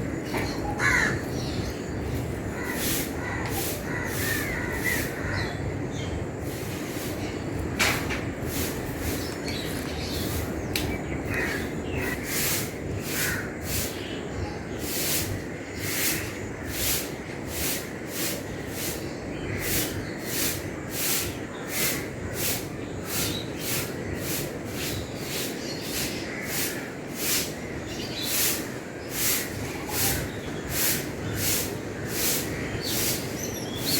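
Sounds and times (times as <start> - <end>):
broom sweeping ground: 0.0 - 5.4, 6.4 - 33.9
birds chirping: 0.0 - 33.9.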